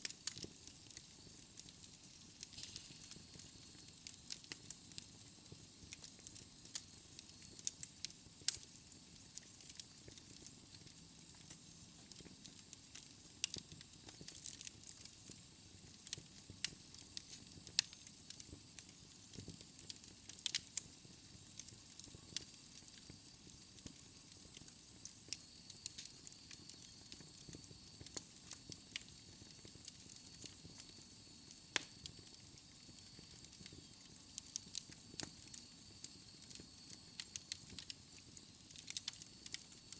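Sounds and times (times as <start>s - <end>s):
fire pops and snaps: 0.0s - 39.9s
soft steady fire hiss: 0.0s - 39.9s.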